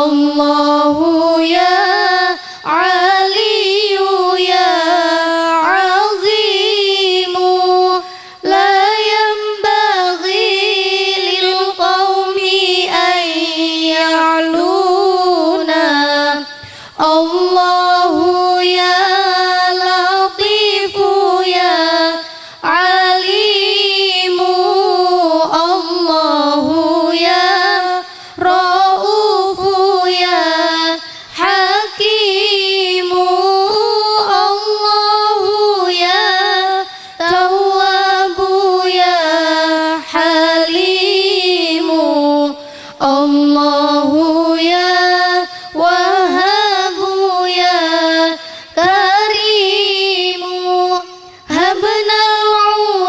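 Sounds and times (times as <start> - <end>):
woman singing devotional song: 0.0 - 53.0.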